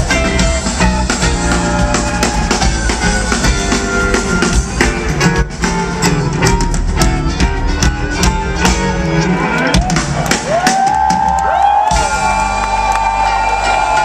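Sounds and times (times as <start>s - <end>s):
drum beat: 0.0s - 9.0s, 9.8s - 14.0s
rock band playing: 0.0s - 14.0s.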